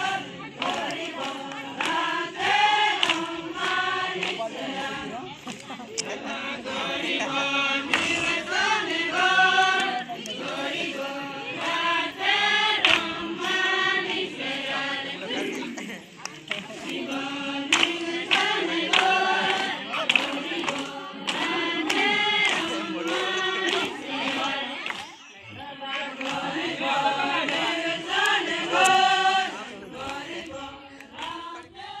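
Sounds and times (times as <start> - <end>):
group of voices singing: 0.0 - 32.0.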